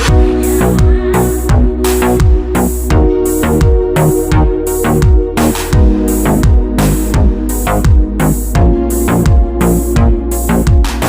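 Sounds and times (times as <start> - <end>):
deep sliding bass notes: 0.0 - 11.0
electronic music with steady beat: 0.0 - 11.0.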